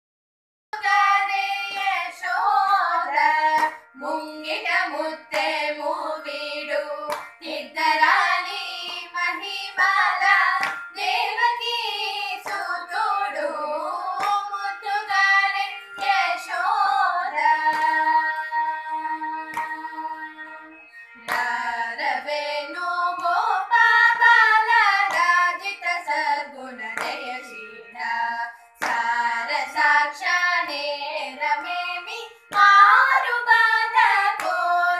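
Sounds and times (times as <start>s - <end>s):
women singing in unison: 0.8s - 34.9s.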